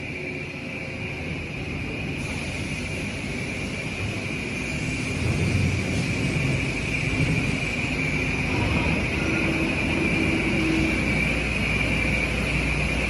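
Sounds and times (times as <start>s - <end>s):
machine drone with low rumble: 0.0s - 13.0s.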